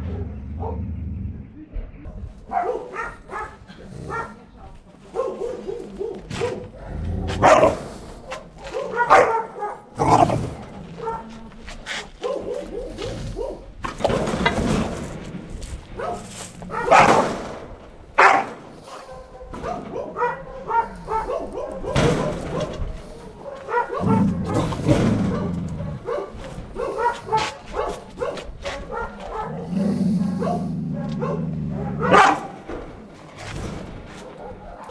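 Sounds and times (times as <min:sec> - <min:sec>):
dog barking and whining: 0:02.4 - 0:04.4, 0:05.1 - 0:11.4, 0:12.0 - 0:14.6, 0:15.9 - 0:32.8, 0:34.2 - 0:34.9.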